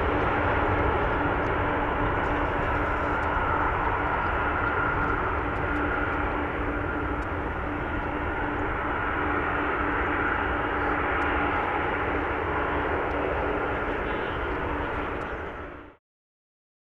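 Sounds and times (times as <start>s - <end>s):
jet engines running with whine: 0.0s - 16.0s.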